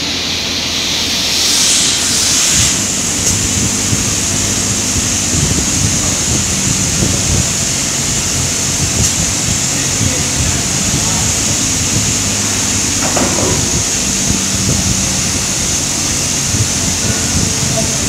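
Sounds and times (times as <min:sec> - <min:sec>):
machinery hum and hiss: 0:00.0 - 0:18.0
rough rumbles: 0:01.3 - 0:18.0.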